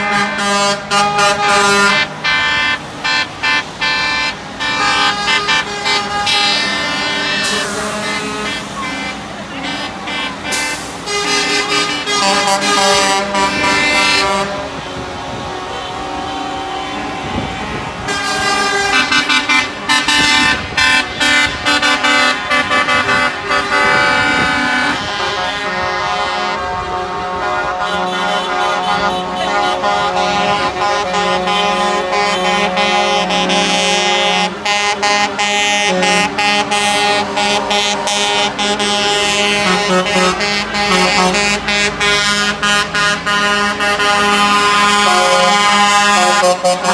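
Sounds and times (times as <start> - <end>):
truck air horns blowing: 0.0 - 46.9.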